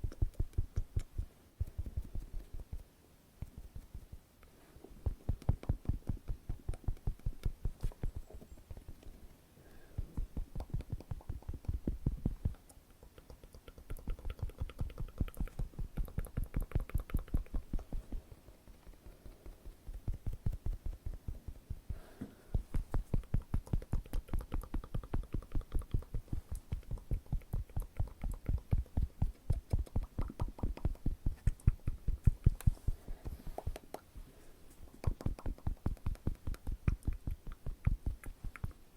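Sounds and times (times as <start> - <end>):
rapid fingertip tapping: 0.0 - 4.2, 5.0 - 34.3, 34.9 - 38.8.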